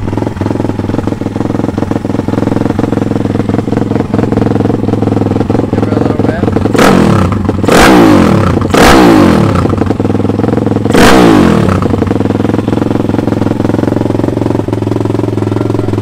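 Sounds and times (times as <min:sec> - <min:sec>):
motorbike engine revving and idling: 0:00.0 - 0:16.0.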